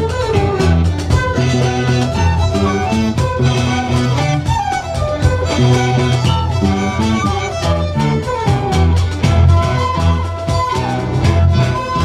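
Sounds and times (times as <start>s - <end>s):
fiddles and flutes: 0.0s - 12.0s
hand drums: 0.0s - 12.0s
strummed guitars: 0.0s - 12.0s.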